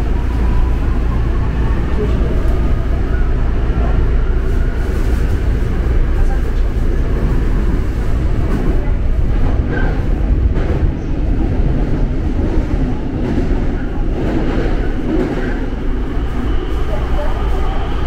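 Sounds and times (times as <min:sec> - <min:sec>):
subway train rumbling in tunnel: 0:00.0 - 0:18.0.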